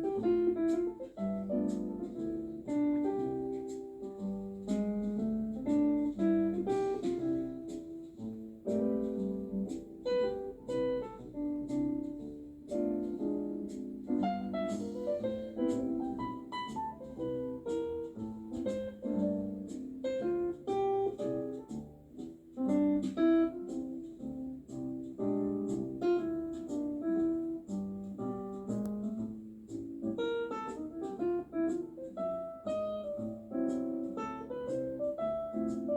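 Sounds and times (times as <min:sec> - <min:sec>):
piano melody: 0:00.0 - 0:35.9.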